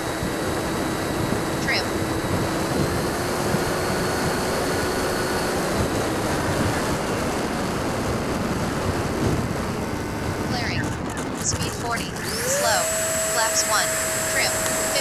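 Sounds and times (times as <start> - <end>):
electric ducted fan whine: 0.0 - 15.0
wind rushing on microphone: 0.0 - 15.0.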